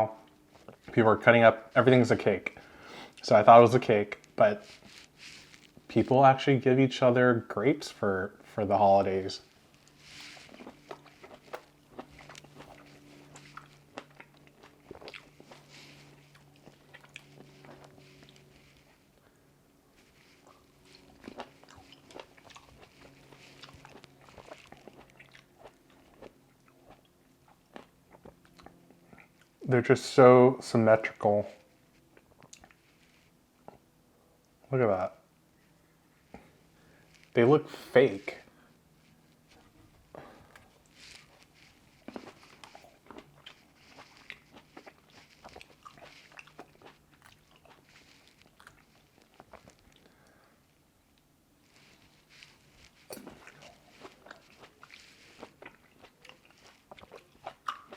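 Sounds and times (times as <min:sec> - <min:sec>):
person chewing grapes: 0:01.7 - 0:06.0, 0:08.9 - 0:29.7, 0:32.0 - 0:34.6, 0:36.3 - 0:57.9.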